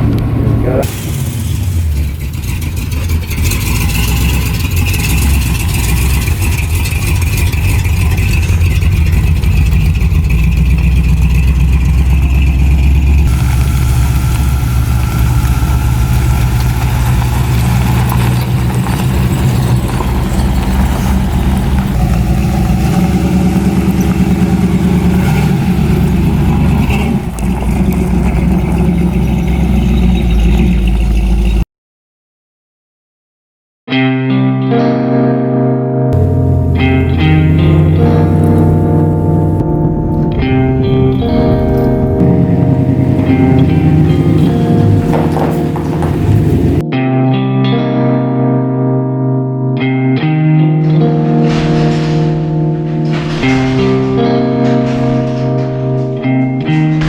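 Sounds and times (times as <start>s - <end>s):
car engine droning: 0.0s - 31.6s, 36.1s - 46.9s, 50.8s - 57.0s.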